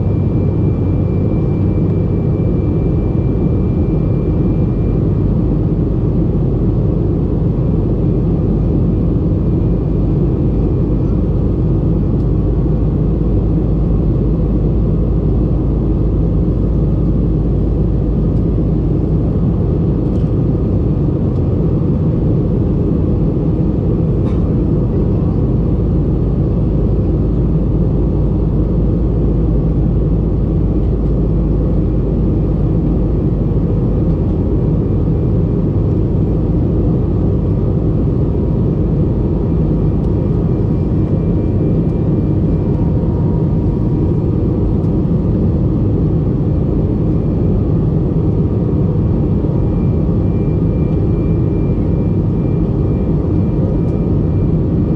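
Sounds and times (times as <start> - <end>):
airplane cabin engine rumble: 0.0 - 54.9.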